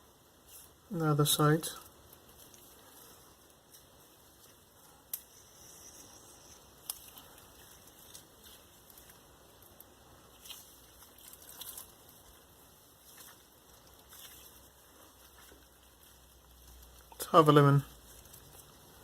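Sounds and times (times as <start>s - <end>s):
wet squishing of raw meat: 1.8s - 5.3s, 6.7s - 19.0s.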